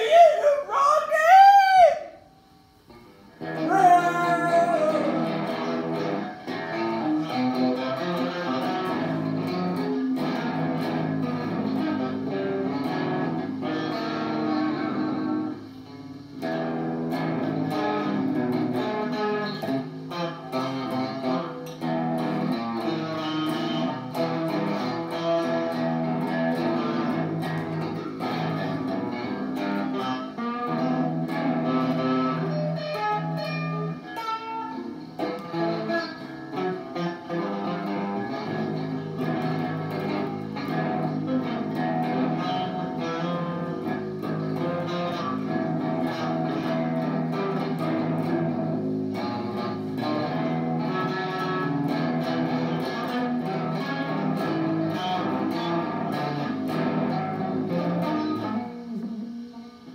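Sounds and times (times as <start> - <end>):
electric guitar solo: 0.0 - 59.9.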